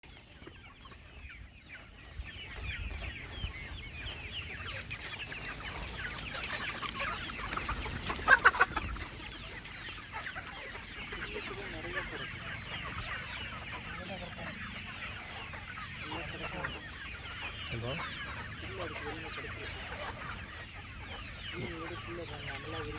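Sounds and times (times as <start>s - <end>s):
chickens clucking: 0.0s - 22.9s.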